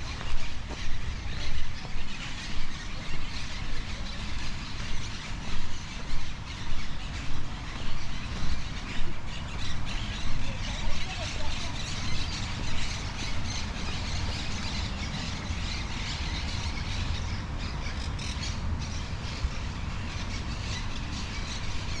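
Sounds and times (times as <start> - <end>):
flock of birds squawking: 0.0 - 22.0.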